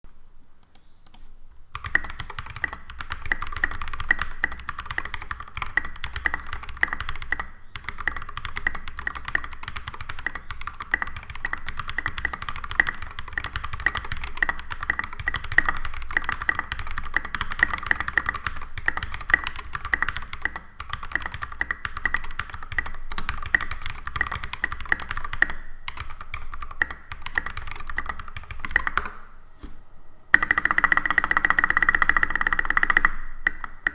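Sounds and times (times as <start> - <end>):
mechanical keyboard typing: 0.6 - 29.2, 30.3 - 33.9.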